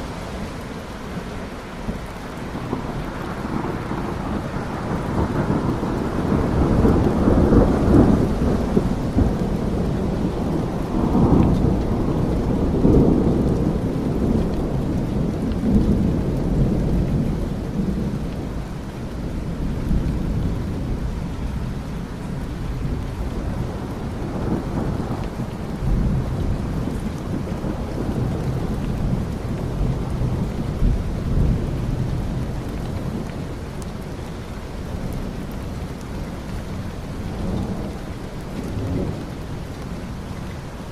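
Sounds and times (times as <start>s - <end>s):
steady rain: 0.0s - 40.9s
thunder rumbling: 0.0s - 40.9s.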